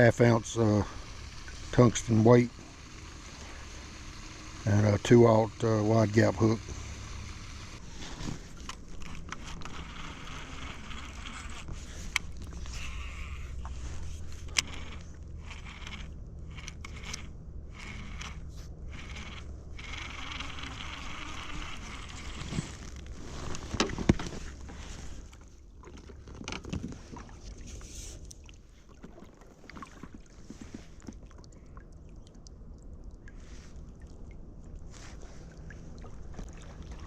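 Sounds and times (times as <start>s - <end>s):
water against kayak hull: 0.0s - 37.0s.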